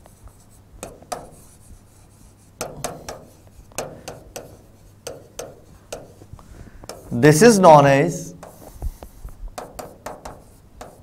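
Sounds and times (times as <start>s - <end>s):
chalk scratching on chalkboard: 0.0s - 6.3s, 6.9s - 7.1s, 8.4s - 11.0s.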